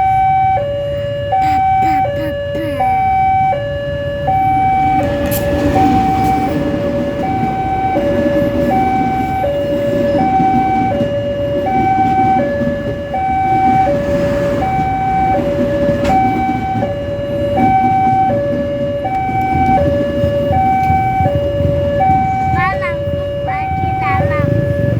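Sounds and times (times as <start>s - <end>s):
level crossing two-tone alarm: 0.0s - 24.9s.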